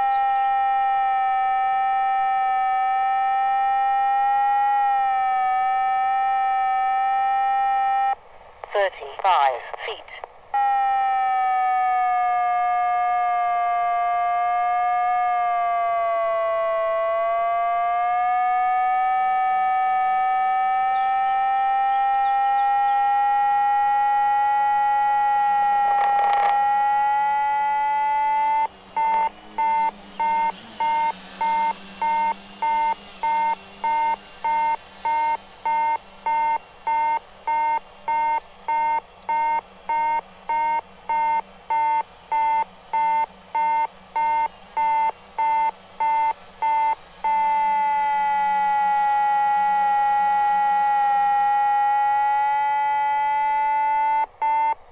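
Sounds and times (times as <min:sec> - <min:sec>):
electronic tone gliding up: 0:00.0 - 0:08.9, 0:10.6 - 0:54.7
steady electronic beeping: 0:00.0 - 0:16.4, 0:17.0 - 0:54.8.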